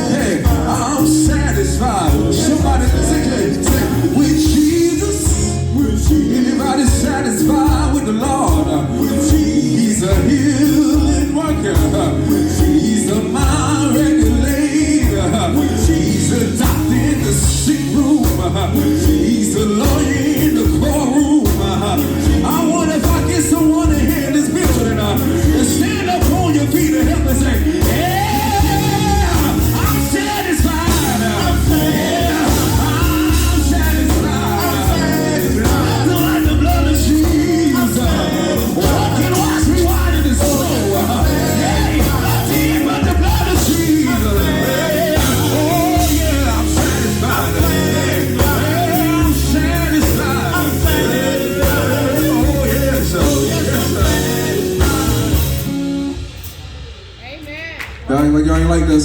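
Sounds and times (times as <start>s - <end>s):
person singing: 0.0s - 55.8s
gospel band playing: 0.0s - 59.0s.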